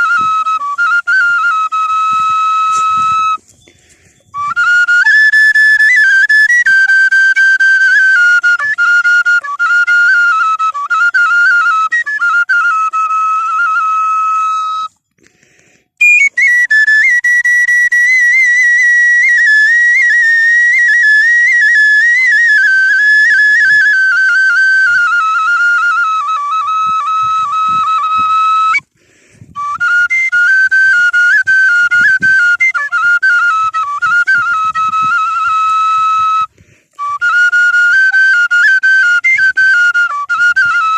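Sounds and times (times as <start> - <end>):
flute-like wind instrument melody: 0.0 - 15.1, 15.9 - 40.9.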